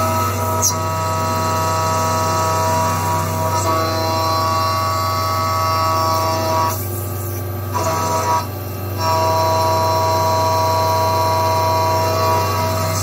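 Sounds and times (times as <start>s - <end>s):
milling cutter high-pitched whine: 0.0s - 13.0s.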